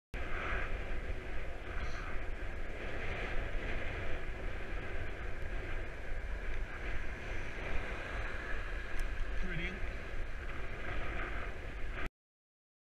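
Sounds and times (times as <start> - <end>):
road noise: 0.2 - 12.1
wind rushing over microphone: 0.2 - 12.1.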